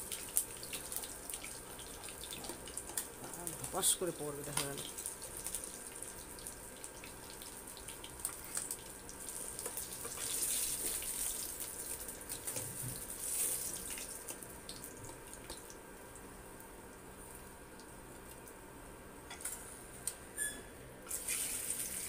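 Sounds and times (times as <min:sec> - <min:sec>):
hot oil sizzling: 0:00.0 - 0:18.4, 0:21.1 - 0:22.0.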